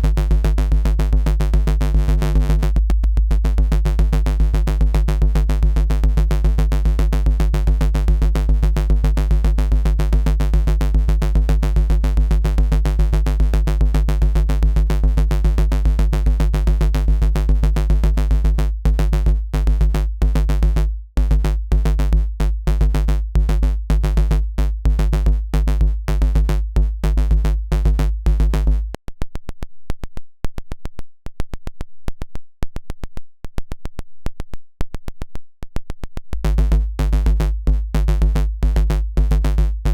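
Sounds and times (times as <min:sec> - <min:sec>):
buzzy synth bass note: 0:00.0 - 0:29.0, 0:36.4 - 0:39.9
drum machine pulse: 0:00.0 - 0:29.6, 0:35.8 - 0:39.9.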